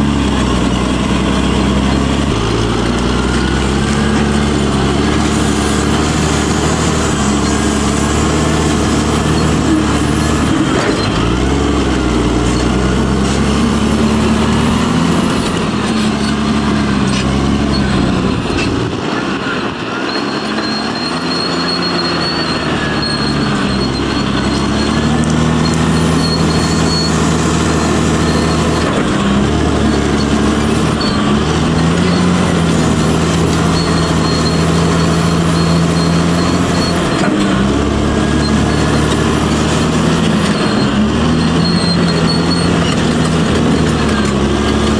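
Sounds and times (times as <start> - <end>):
bulldozer diesel engine working: 0.0 - 44.9
high metallic squeal: 0.0 - 44.9.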